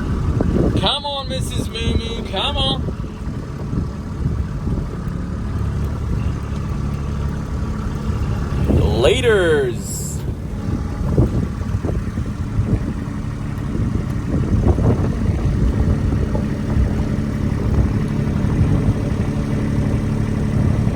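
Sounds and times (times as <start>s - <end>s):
farm vehicle engine running: 0.0s - 20.9s.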